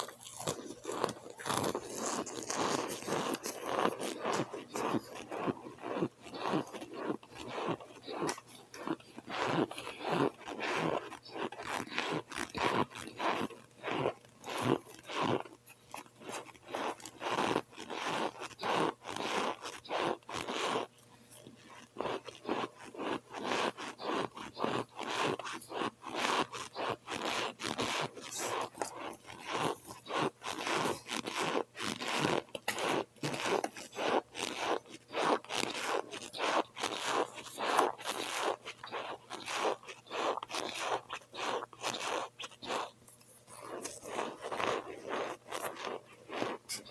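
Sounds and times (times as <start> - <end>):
chewing crunches: 0.0 - 46.9.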